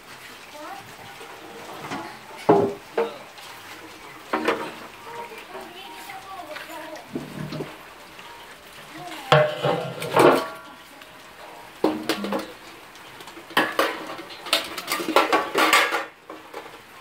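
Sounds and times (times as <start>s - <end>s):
metal colander and utensil clanking: 0.6s - 17.0s.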